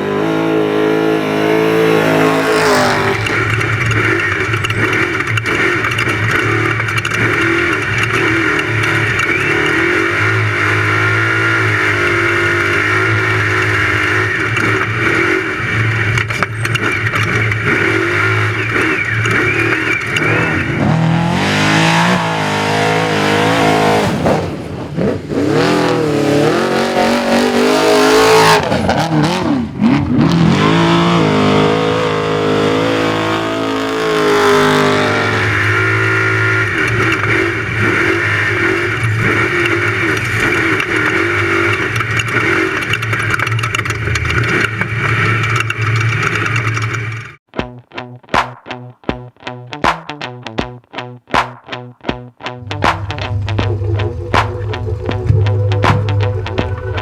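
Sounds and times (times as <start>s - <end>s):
truck engine revving: 0.0s - 47.1s.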